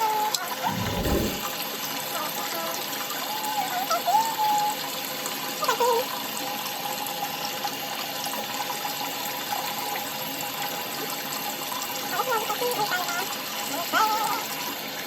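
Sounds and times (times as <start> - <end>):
water running from a tap: 0.0 - 15.0.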